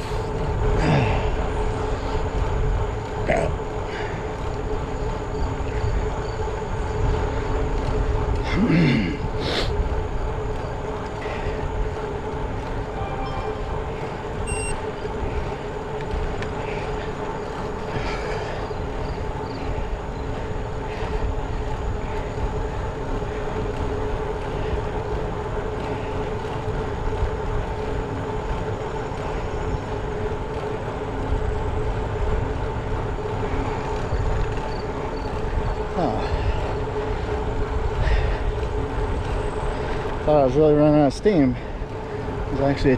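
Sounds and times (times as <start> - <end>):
bicycle road and wind noise: 0.0 - 42.9
constant low hum: 0.0 - 42.9.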